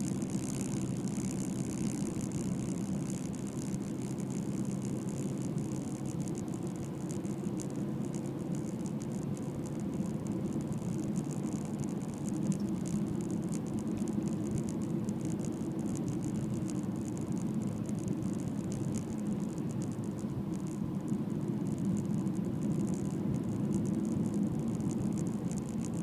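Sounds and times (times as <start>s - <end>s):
car road and engine noise: 0.0s - 26.0s
light constant rattle: 0.0s - 26.0s.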